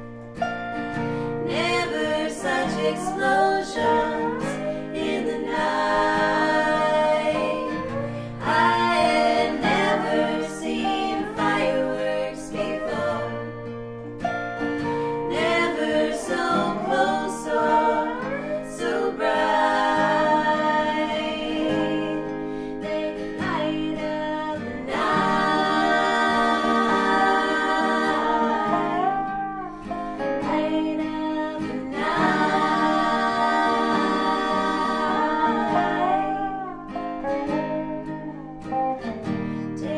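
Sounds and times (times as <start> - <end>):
acoustic guitar: 0.0 - 39.9
dobro: 0.0 - 39.9
women singing in harmony: 1.0 - 13.8, 14.8 - 37.2.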